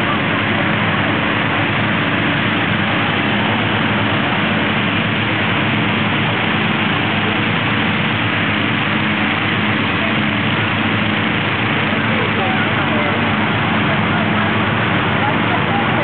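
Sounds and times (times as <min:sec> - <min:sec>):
inflator fan engine drone: 0:00.0 - 0:16.0
rushing air: 0:00.0 - 0:16.0.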